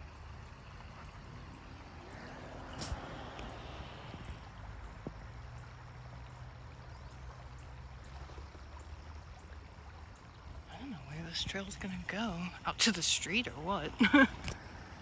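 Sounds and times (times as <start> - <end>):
faint creek water running: 0.0 - 15.0
low steady hum: 0.0 - 15.0.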